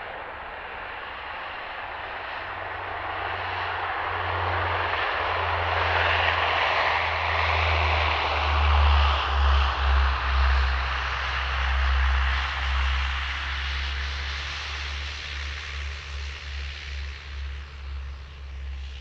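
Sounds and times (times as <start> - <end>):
propeller plane engine rush: 0.0 - 19.0.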